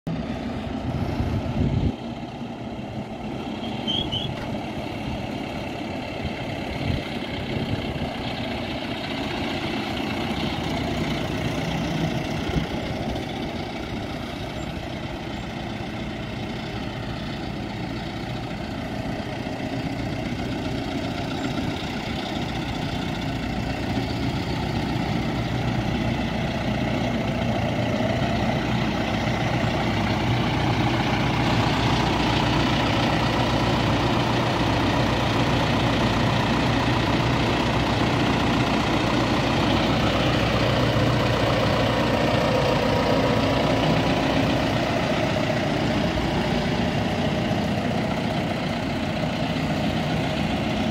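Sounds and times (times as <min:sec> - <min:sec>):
tractor diesel engine running: 0:00.1 - 0:50.9.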